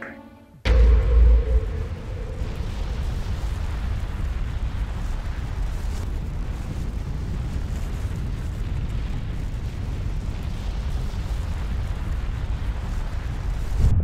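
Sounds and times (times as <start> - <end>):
low earth rumbling: 0.7 - 14.0.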